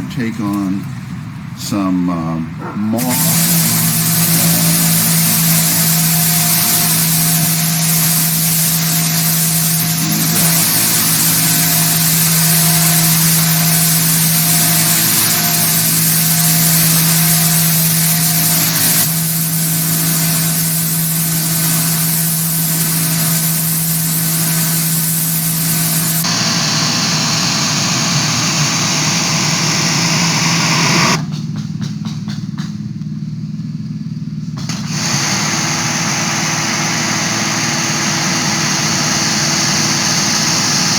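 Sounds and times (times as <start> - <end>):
pressure washer motor hum: 2.9 - 40.9
high-pressure water jet hiss: 3.0 - 31.2, 34.6 - 40.9.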